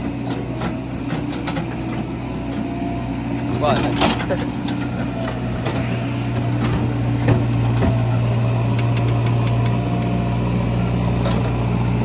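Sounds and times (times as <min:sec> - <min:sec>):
diesel engines running: 0:00.0 - 0:12.0.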